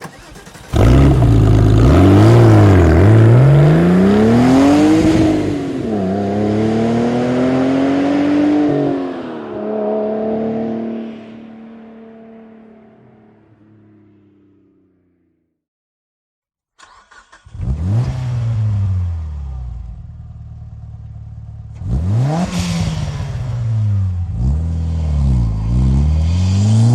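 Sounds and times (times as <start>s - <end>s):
car engine revving: 0.0s - 14.4s, 16.8s - 26.9s.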